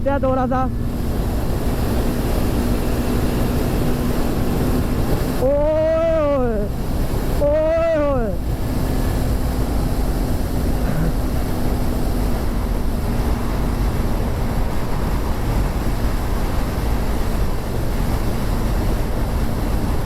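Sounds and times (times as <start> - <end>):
motorcycle engine running: 0.0 - 20.0
wind rushing over microphone: 0.0 - 20.0.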